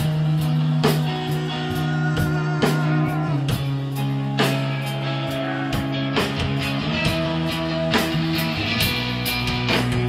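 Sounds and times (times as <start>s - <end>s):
drum and cymbal hits: 0.0s - 10.0s
electric guitar sustained notes: 0.0s - 10.0s.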